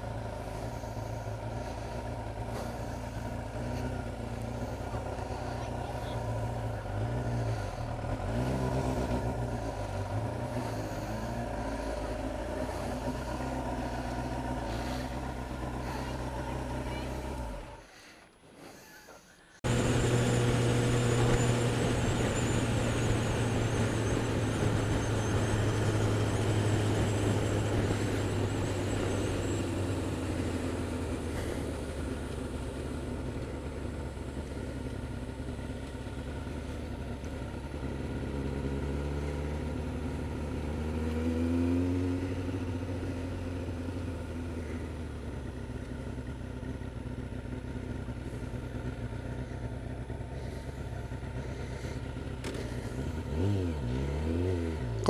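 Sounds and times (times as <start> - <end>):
motorcycle engine: 0.0 - 18.2, 19.6 - 55.0.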